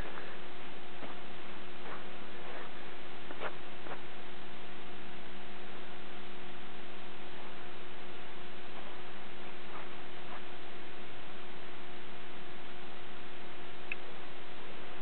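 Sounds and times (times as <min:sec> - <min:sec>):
hum of held tones: 0:00.0 - 0:15.0.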